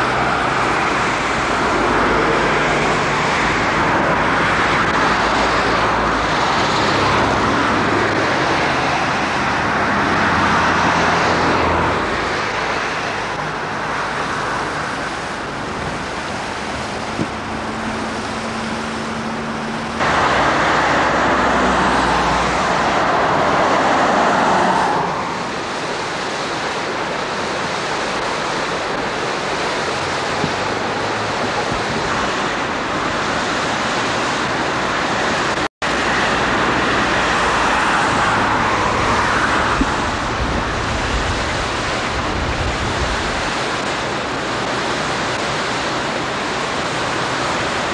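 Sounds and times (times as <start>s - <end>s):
river running over stones: 0.0s - 47.9s
road traffic passing: 0.0s - 47.9s.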